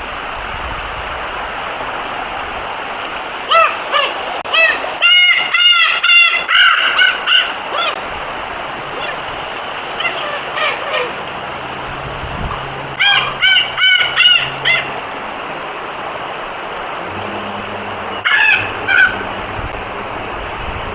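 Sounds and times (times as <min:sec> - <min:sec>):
bird calling: 0:03.1 - 0:20.9.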